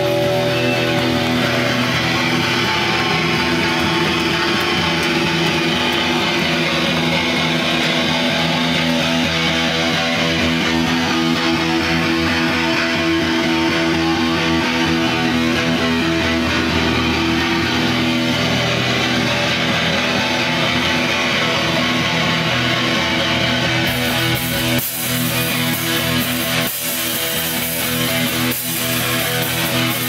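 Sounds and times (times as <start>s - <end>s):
black metal band playing live: 0.0s - 30.0s.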